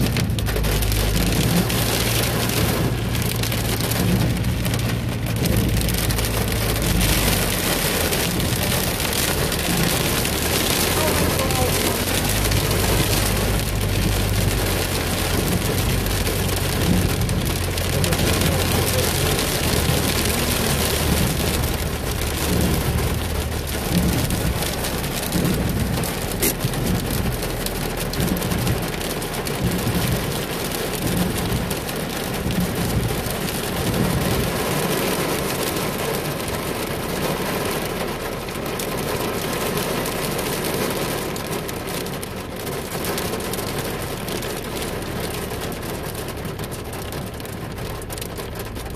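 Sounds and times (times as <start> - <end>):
heavy rain on car roof: 0.0 - 48.9
low car rumble: 0.0 - 48.9.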